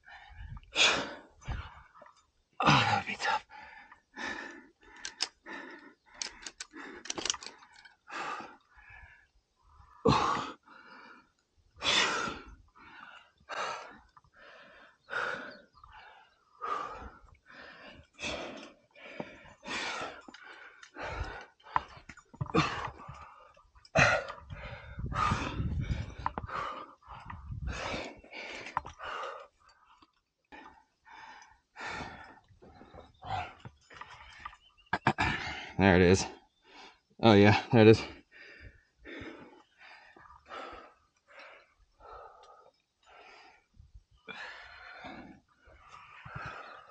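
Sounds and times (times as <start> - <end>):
person breathing hard: 3.2 - 34.6, 38.0 - 46.9.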